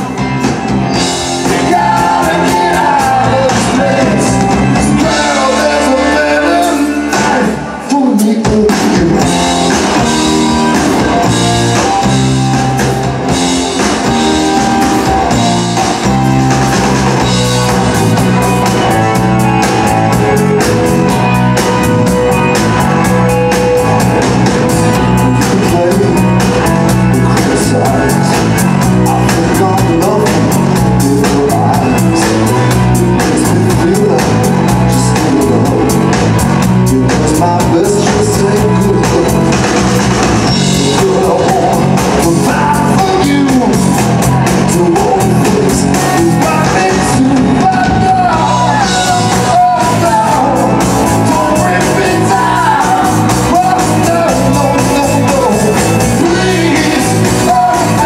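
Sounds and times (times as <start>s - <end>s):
drum kit beat: 0.0s - 58.0s
electric bass: 0.0s - 58.0s
electric guitars: 0.0s - 58.0s
lead vocal singing: 0.0s - 58.0s
rock band playing: 0.0s - 58.0s.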